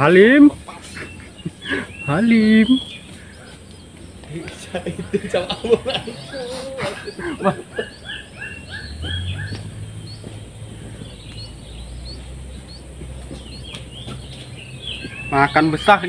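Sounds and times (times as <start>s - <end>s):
birds calling: 0.0s - 16.0s
higher bird chirps: 0.0s - 16.0s.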